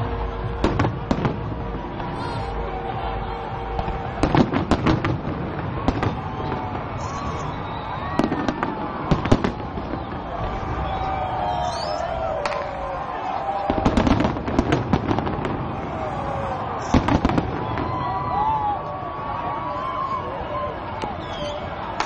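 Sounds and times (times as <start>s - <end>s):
fireworks bangs: 0.0s - 18.9s.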